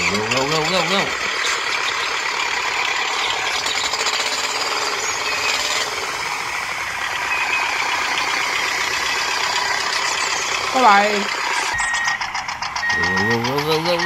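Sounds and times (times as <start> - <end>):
toy tractors rattling: 0.0 - 14.0.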